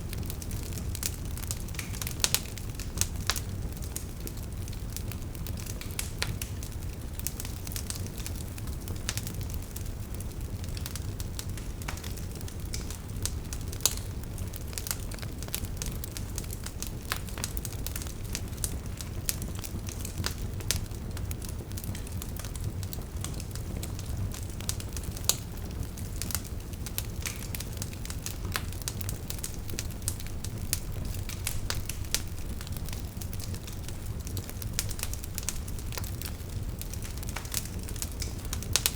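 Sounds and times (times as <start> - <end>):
fire rumbling in fireplace: 0.0 - 38.9
logs crackling and popping: 0.0 - 38.9.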